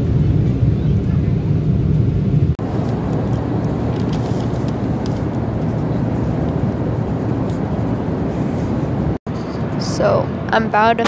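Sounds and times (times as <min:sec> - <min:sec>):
jet airliner cabin noise: 0:00.0 - 0:11.0.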